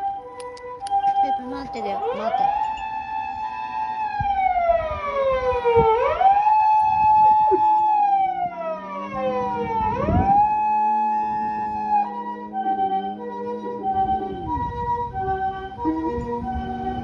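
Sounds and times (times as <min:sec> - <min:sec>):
faint two-tone ambulance siren: 0:00.0 - 0:17.0.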